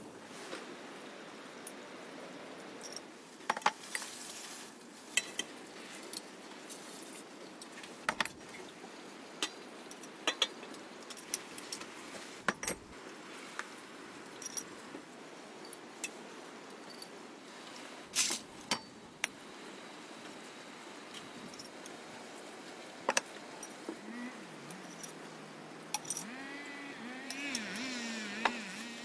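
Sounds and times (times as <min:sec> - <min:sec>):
faint background hiss: 0:00.0 - 0:29.0.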